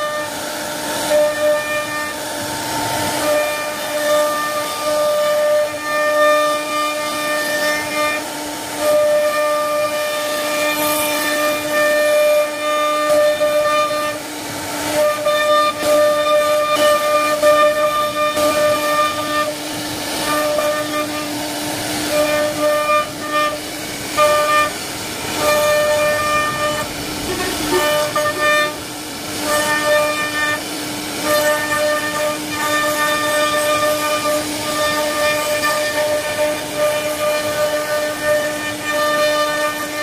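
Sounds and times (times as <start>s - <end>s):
hiss of cutting wood: 0.0s - 40.0s
router spindle whine: 0.0s - 40.0s.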